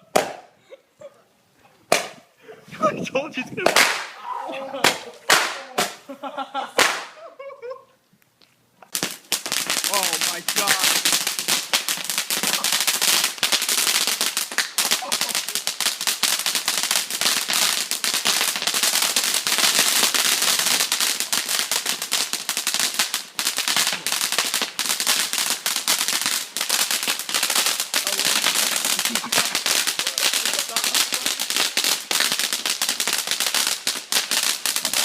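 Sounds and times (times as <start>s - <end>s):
fireworks crackling and popping: 0.0s - 0.6s, 1.7s - 4.2s, 4.8s - 7.2s, 8.8s - 35.0s.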